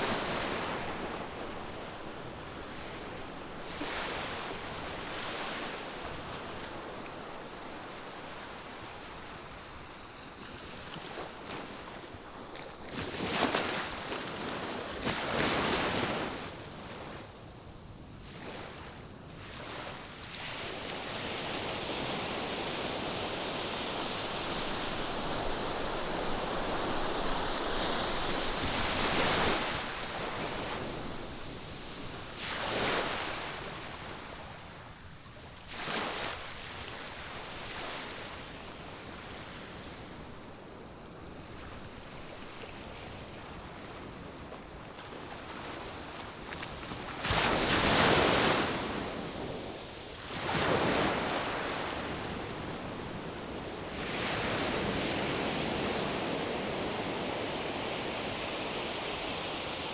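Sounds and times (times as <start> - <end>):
waves crashing on beach: 0.0 - 8.9, 13.1 - 40.6, 47.0 - 59.9.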